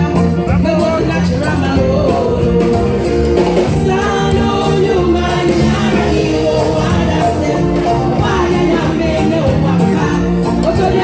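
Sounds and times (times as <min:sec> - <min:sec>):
amplified instrumental backing: 0:00.0 - 0:11.0
gospel choir singing: 0:00.0 - 0:11.0
woman singing lead: 0:00.0 - 0:11.0.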